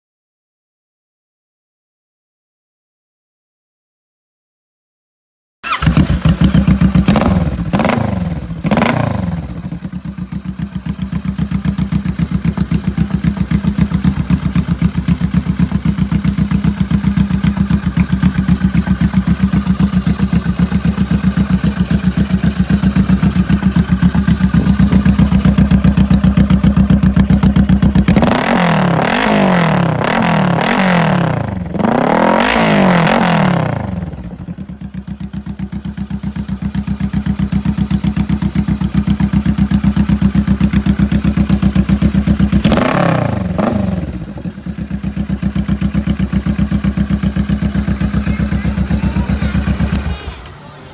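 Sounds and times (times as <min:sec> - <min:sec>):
motorcycle engine revving and idling: 0:05.6 - 0:50.9.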